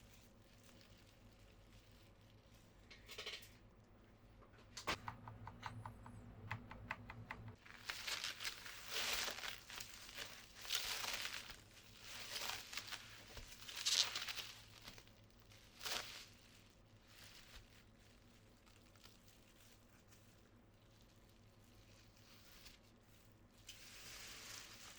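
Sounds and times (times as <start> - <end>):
rustling and crinkling: 0.0 - 24.9.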